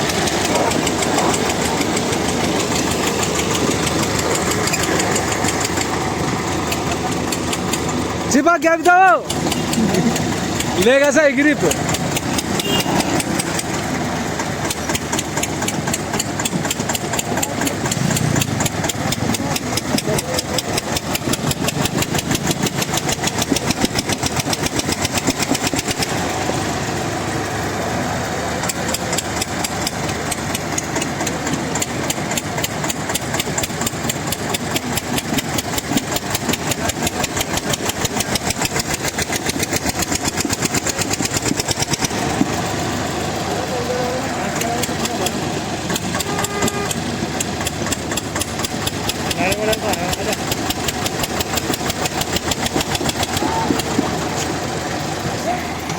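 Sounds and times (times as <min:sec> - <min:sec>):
tractor diesel engines under load: 0:00.0 - 0:55.9.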